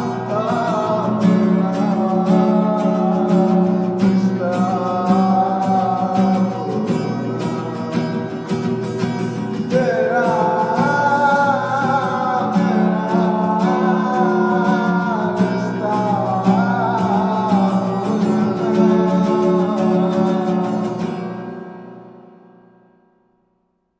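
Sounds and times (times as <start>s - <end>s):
person singing wavering melody: 0.0s - 21.3s
guitar over steady beat: 0.0s - 23.5s.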